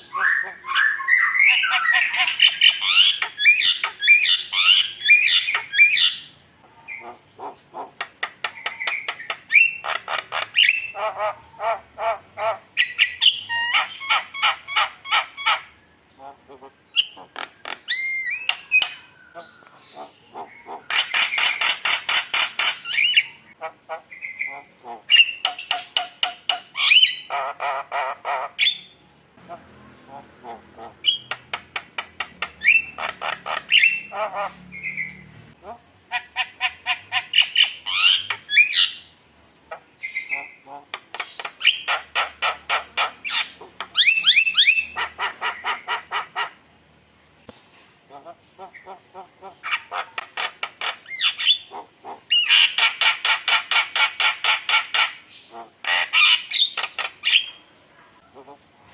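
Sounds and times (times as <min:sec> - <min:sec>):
myna bird singing: 0:00.0 - 0:58.6.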